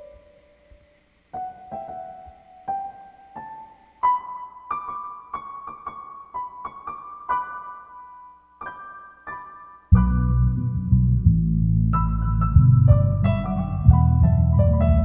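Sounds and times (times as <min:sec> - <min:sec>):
piano notes: 0:00.0 - 0:15.0.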